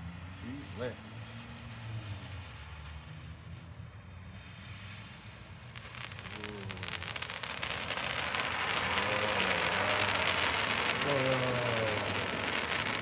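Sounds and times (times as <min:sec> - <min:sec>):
firework fountain crackling hiss: 0:00.6 - 0:13.0.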